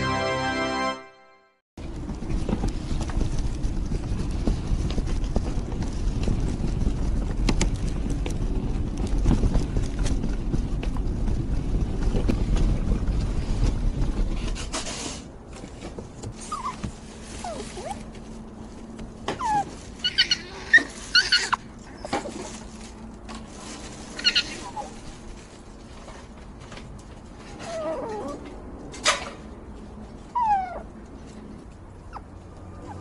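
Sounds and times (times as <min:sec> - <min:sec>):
stroller wheels rumbling on pavement: 0:01.8 - 0:33.0.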